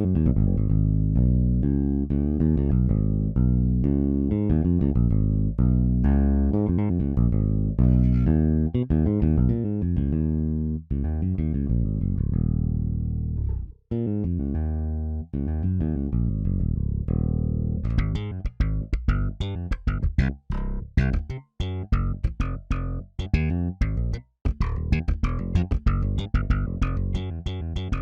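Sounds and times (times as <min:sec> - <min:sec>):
electric bass funk groove: 0:00.0 - 0:28.0.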